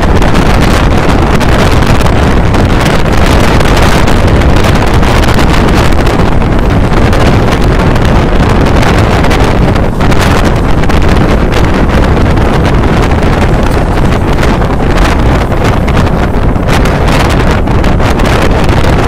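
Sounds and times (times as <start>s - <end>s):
train running noise: 0.0s - 19.0s
wind rushing over microphone: 0.0s - 19.0s.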